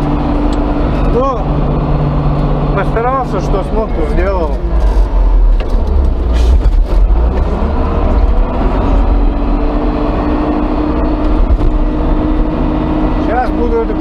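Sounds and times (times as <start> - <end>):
diesel engine rumbling under load: 0.0 - 14.0
steady higher engine note: 0.0 - 14.0.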